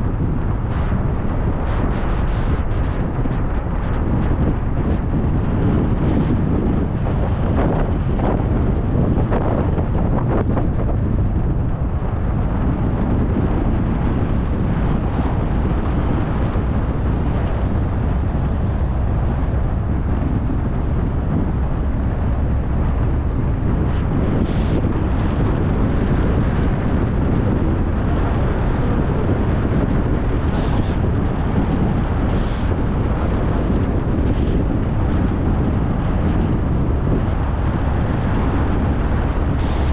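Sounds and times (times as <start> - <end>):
car road rumble: 0.0 - 39.9
wind buffeting microphone: 0.0 - 39.9.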